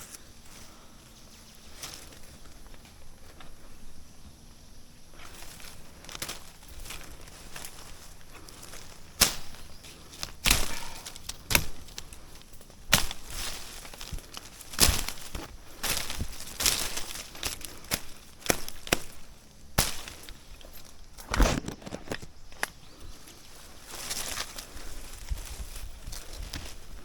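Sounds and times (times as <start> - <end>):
rustling: 0.0 - 27.0.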